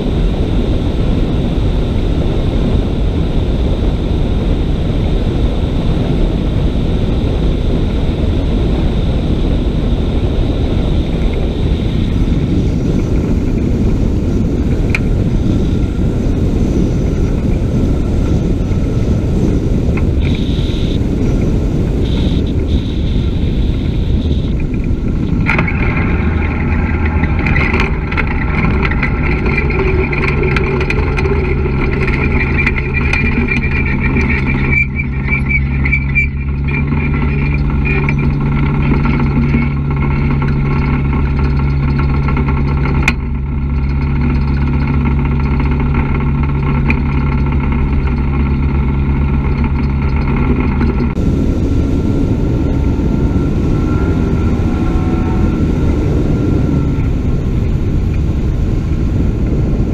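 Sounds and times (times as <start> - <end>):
engine idling hum: 0.0 - 59.9
wind rushing over microphone: 0.0 - 59.9.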